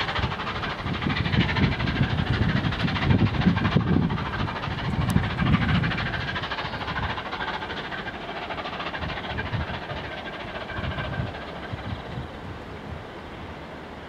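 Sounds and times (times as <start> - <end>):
diesel train rumbling away: 0.0 - 14.0.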